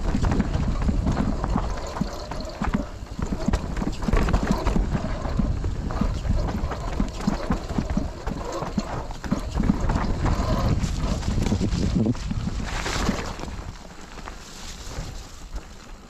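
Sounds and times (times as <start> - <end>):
bike knocking and rattling: 0.0 - 16.0
tyres rumbling: 0.0 - 16.0
wind: 0.0 - 16.0.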